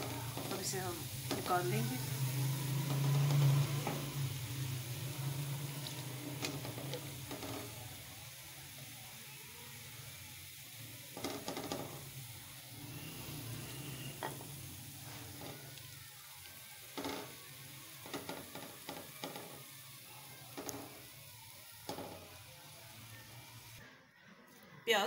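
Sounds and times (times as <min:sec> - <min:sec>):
onions sizzling in oil: 0:00.0 - 0:23.8.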